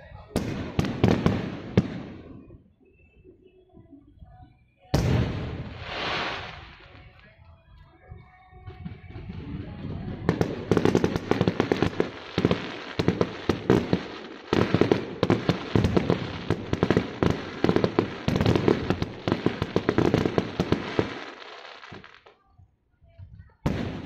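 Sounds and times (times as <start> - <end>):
fireworks bangs and crackles: 0.2 - 2.7, 4.9 - 7.4, 8.6 - 22.3, 23.2 - 24.0.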